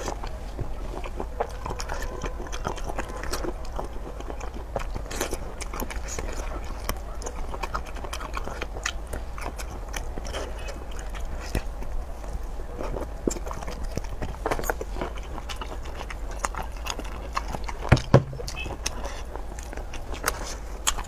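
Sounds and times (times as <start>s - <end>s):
chewing shellfish: 0.0s - 21.0s.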